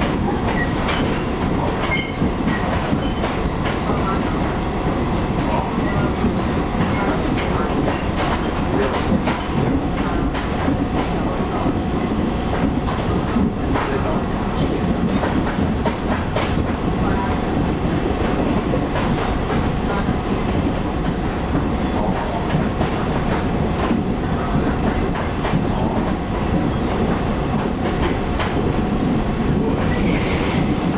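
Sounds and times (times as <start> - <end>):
wheels rumbling on rail: 0.0 - 30.9.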